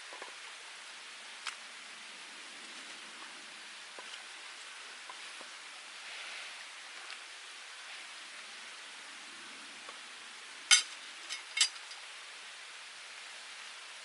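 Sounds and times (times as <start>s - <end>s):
wood fire hissing: 0.0s - 14.0s.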